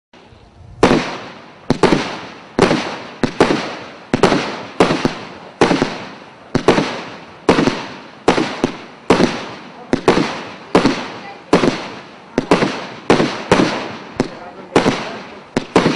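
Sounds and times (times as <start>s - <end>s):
fireworks bangs: 0.2s - 15.9s.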